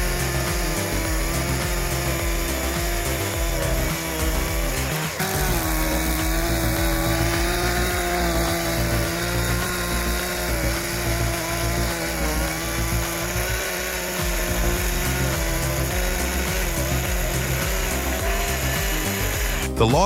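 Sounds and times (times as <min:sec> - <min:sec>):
background music with beat: 0:00.0 - 0:20.0
power saw whine: 0:00.0 - 0:20.0.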